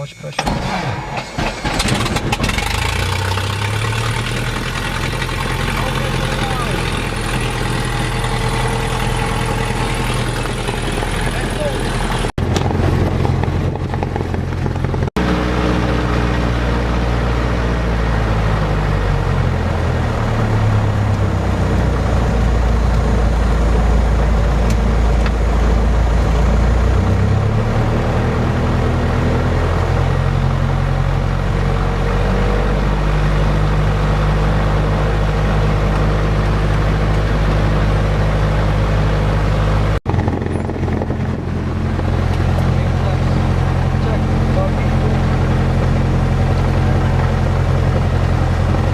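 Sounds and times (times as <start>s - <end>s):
propeller plane engine drone: 0.0s - 48.9s.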